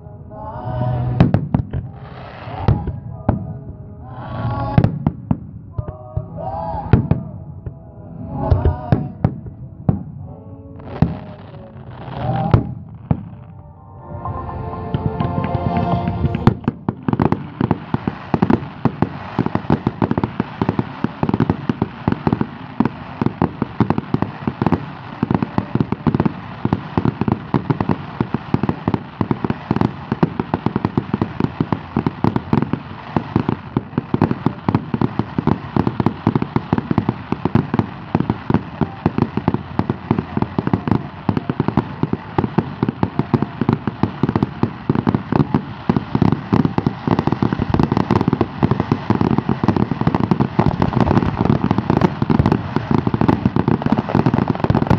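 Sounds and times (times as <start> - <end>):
fireworks bangs and crackles: 0.9 - 7.7, 8.3 - 10.2, 10.8 - 13.5, 14.9 - 54.9.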